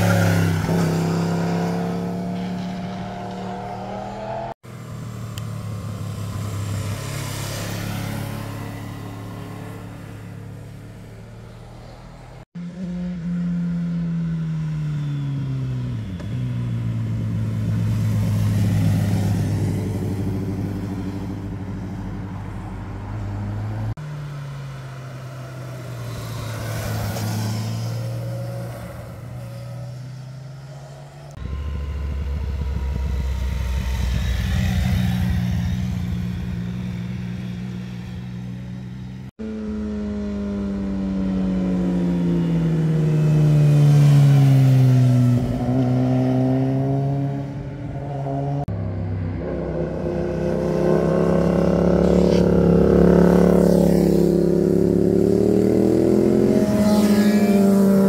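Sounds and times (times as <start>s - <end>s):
sport motorcycles passing: 0.0s - 58.0s.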